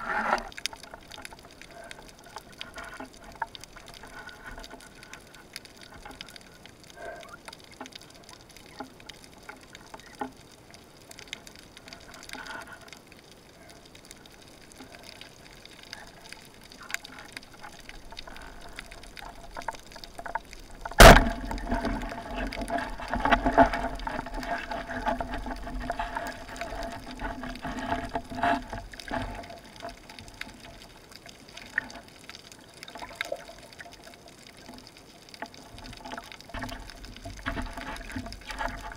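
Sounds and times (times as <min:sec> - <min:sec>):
rushing underwater crackling: 0:00.0 - 0:38.9
underwater ambience: 0:00.0 - 0:38.9.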